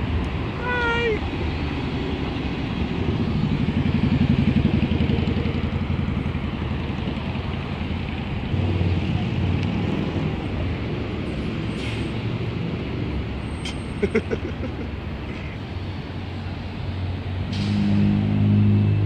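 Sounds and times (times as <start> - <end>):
bus engine passing: 0.0 - 19.0
rumble of cars: 0.0 - 19.0.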